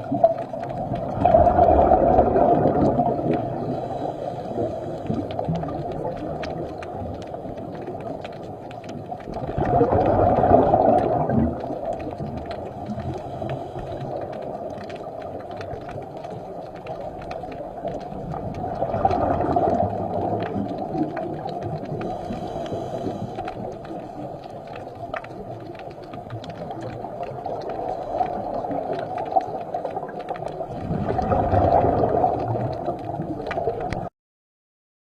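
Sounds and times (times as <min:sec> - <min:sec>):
muffled low water noise: 0:00.0 - 0:34.1
small clicks and crackles: 0:00.0 - 0:34.1.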